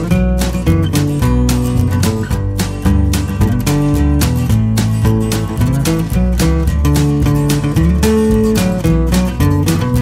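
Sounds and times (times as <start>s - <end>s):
acoustic guitar strumming chords: 0.0s - 10.0s
bass line: 0.0s - 10.0s.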